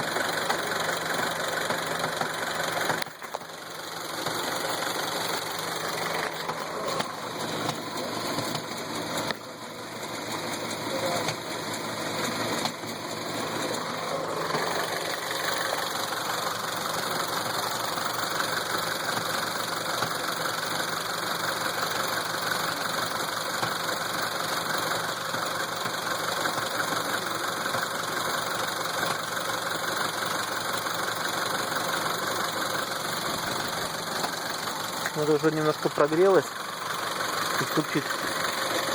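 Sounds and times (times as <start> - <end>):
car engine idling: 0.0 - 38.9
engine knocking: 0.0 - 38.9.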